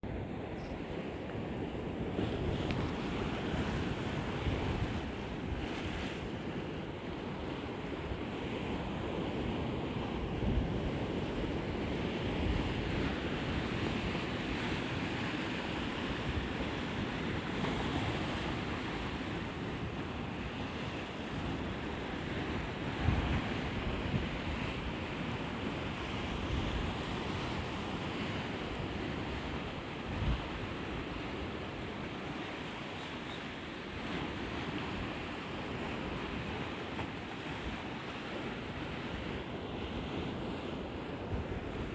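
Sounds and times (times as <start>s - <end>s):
wind buffeting microphone: 0.0s - 32.5s, 33.6s - 41.9s.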